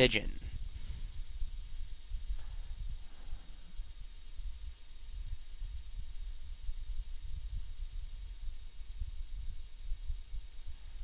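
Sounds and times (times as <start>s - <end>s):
faint hiss: 0.0s - 11.0s
low room noise rumble: 0.0s - 11.0s
faint irregular clicks: 0.6s - 9.2s, 10.3s - 11.0s.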